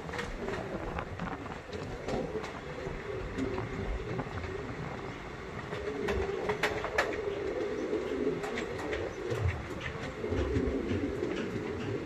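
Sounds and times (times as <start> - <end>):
wheels clicking and knocking: 0.0 - 12.0.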